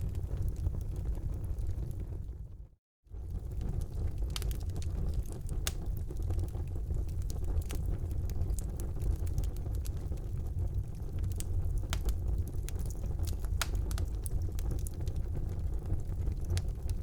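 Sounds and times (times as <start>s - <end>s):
burning logs crackling and popping: 0.0s - 2.5s, 3.2s - 17.0s
low rumble of flames: 0.0s - 17.0s.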